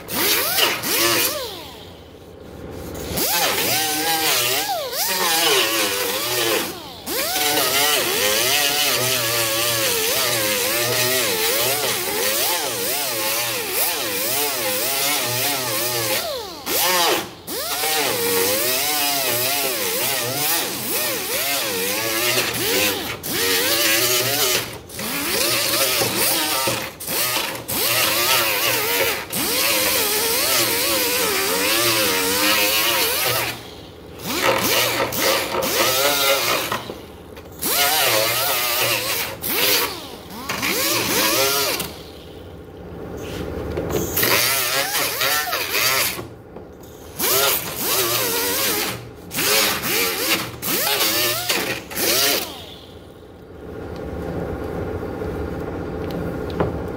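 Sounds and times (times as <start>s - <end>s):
power grinder whining: 0.0s - 2.0s, 3.0s - 42.0s, 44.1s - 46.3s, 47.2s - 52.8s.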